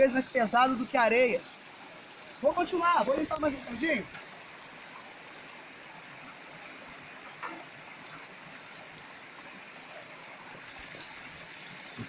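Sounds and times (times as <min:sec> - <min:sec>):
stream running over rock: 0:00.0 - 0:12.0.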